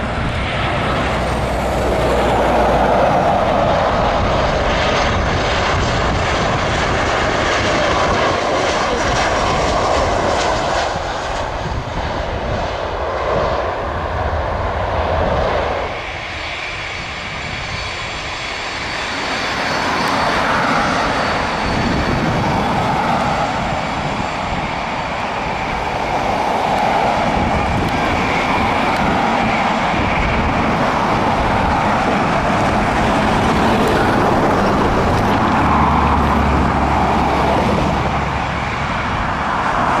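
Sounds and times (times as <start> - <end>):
airliner engines running: 0.0 - 40.0.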